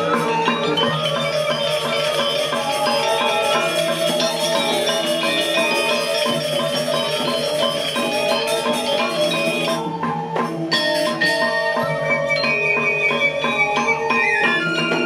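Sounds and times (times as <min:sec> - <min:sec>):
gamelan playing: 0:00.0 - 0:15.0.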